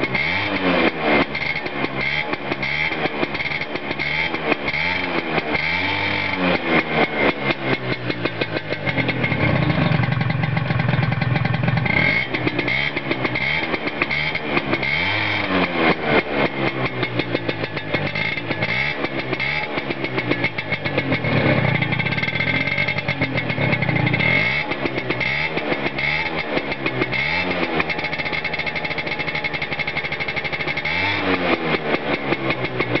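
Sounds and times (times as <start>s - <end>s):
scooter engine revving: 0.0s - 33.0s.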